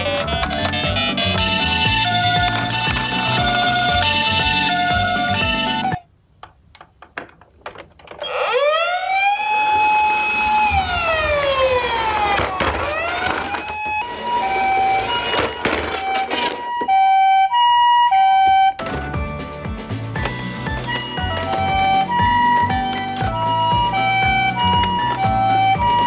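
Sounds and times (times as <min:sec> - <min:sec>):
toy electronic siren wailing: 0:00.0 - 0:06.0, 0:08.2 - 0:18.8, 0:20.8 - 0:26.0.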